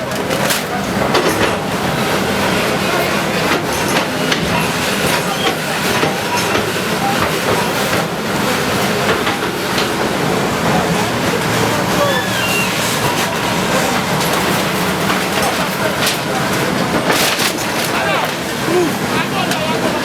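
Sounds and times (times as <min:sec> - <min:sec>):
crowd voices: 0:00.0 - 0:20.0
demolition machinery rumbling: 0:00.0 - 0:20.0.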